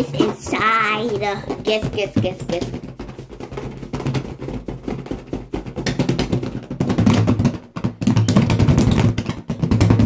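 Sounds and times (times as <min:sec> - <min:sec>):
toy rattling inside a balloon: 0:00.0 - 0:10.0.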